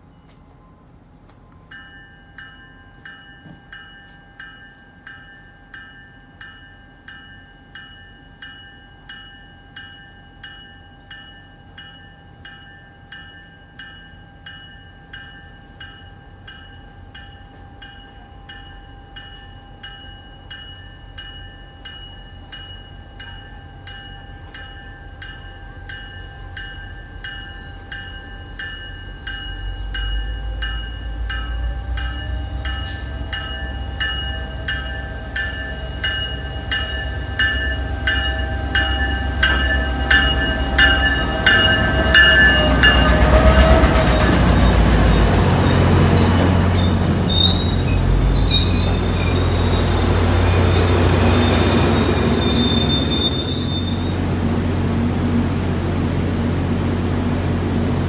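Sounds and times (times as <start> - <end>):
train rumble: 0.0 - 58.0
grade-crossing bell ringing: 1.7 - 54.2.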